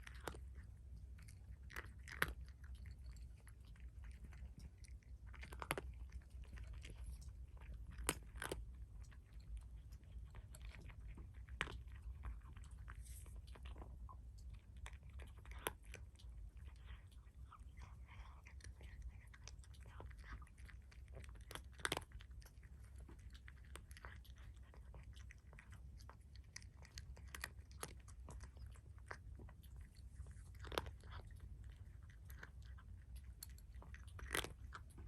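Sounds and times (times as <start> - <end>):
cat crunching food: 0.0 - 35.0
steady low hum: 0.0 - 35.0.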